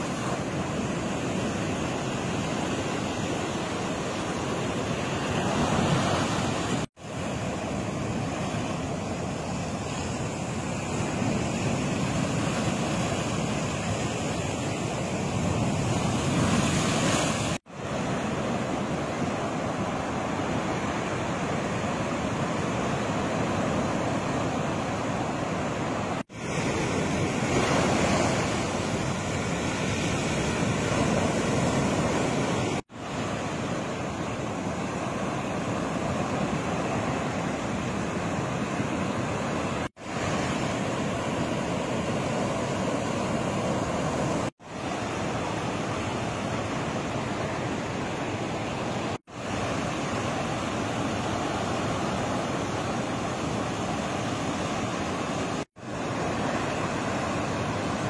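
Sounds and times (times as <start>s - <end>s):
storm waves breaking on beach: 0.0s - 58.0s.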